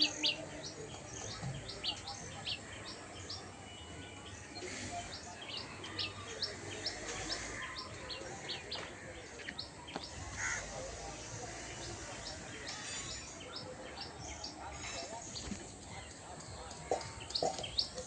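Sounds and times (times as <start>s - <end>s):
low background murmur: 0.0s - 18.0s
small birds chirping: 0.0s - 18.0s.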